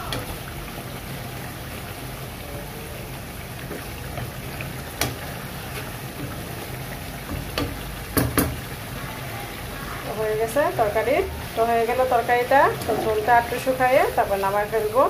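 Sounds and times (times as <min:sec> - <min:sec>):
curry bubbling in a pan: 0:00.0 - 0:15.0.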